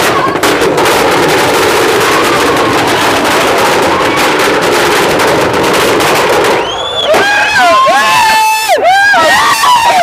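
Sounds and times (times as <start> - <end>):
firecrackers crackling: 0.0 - 10.0.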